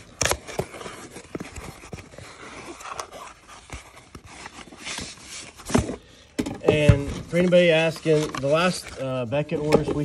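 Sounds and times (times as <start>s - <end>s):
cardboard scraping and rustling: 0.0s - 10.0s.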